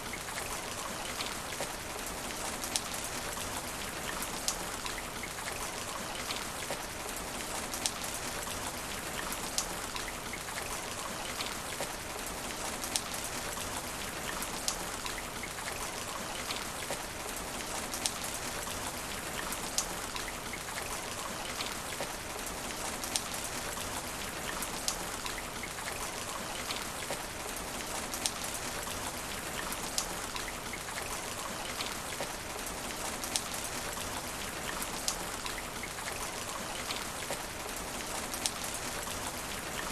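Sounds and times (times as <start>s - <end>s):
rain falling on asphalt: 0.0s - 39.9s.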